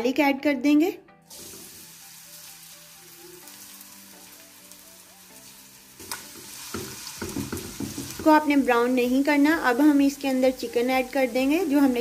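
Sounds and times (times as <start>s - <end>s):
garlic sizzling in hot oil: 1.3s - 12.0s.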